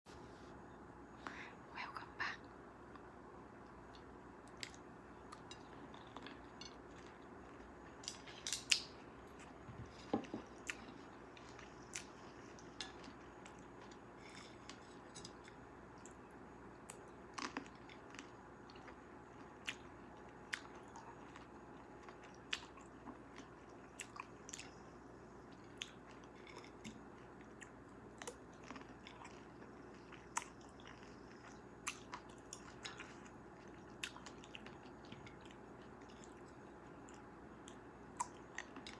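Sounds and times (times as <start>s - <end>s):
person chewing cherries: 2.9s - 38.9s.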